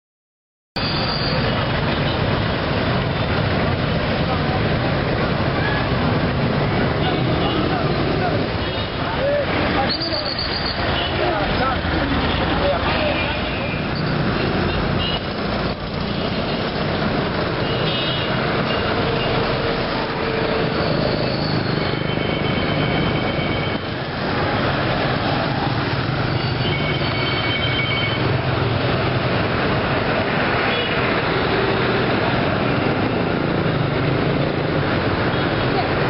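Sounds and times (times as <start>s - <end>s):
street traffic passing: 0.8s - 36.0s.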